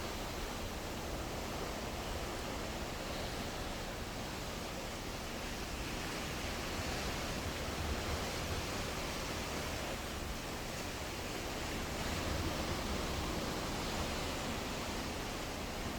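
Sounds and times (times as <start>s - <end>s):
sea water rushing and churning: 0.0s - 15.9s.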